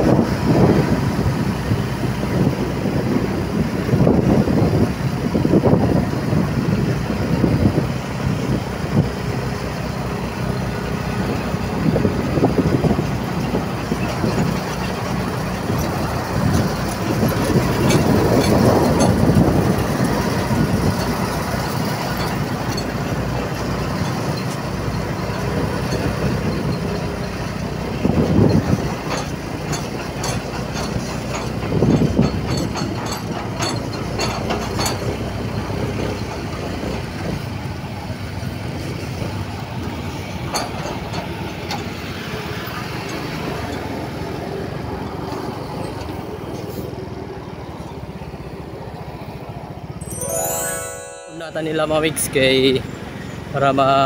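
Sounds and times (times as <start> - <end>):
engine and road rumble: 0.0 - 50.0.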